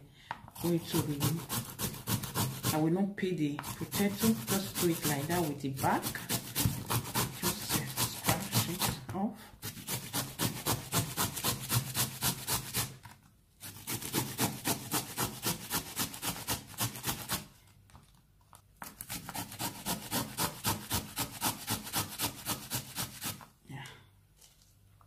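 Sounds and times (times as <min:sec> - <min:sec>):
potato rasping on a metal grater: 0:00.5 - 0:02.9, 0:03.6 - 0:13.0, 0:13.6 - 0:17.5, 0:19.0 - 0:23.4.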